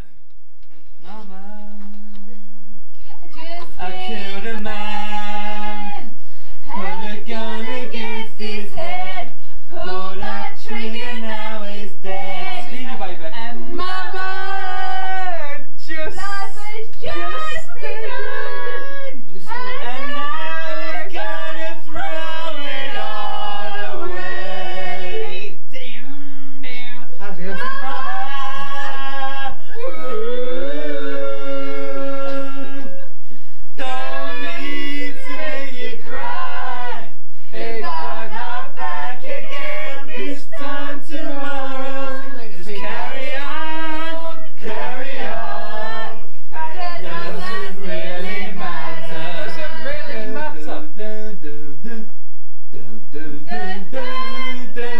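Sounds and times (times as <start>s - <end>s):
men singing a cappella: 3.7s - 25.7s, 26.8s - 54.9s.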